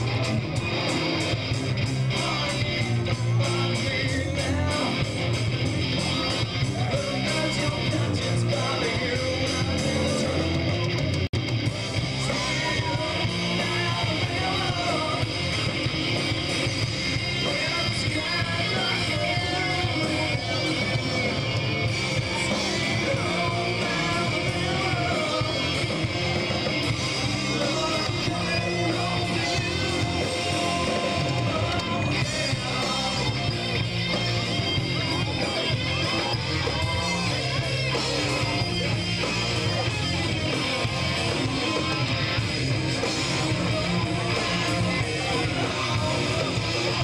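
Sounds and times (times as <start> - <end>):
electric guitar: 0.0 - 47.0
live rock band playing: 0.0 - 47.0
person singing: 1.8 - 11.0, 11.7 - 47.0.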